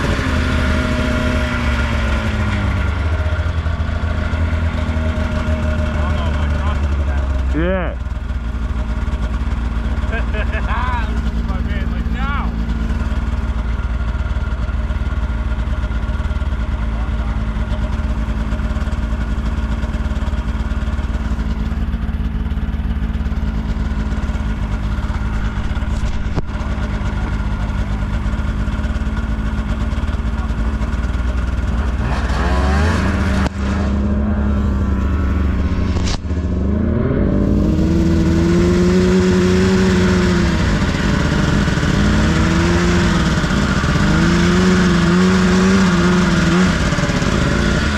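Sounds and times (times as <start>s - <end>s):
off-road vehicle engine revving: 0.0s - 47.9s.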